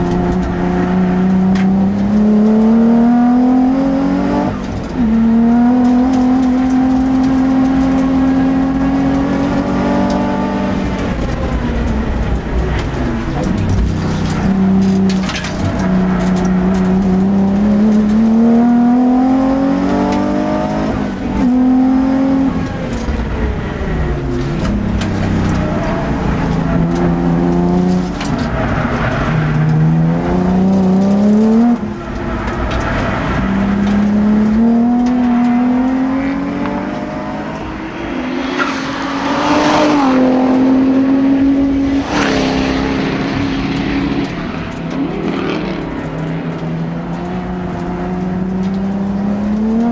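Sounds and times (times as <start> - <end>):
car engine revving at full throttle: 0.0 - 49.9.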